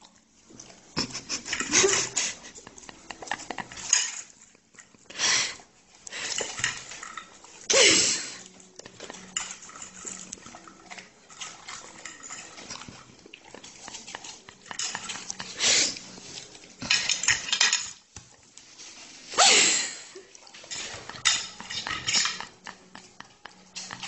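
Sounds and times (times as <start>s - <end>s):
dog eating: 0.0s - 19.3s, 20.2s - 24.0s.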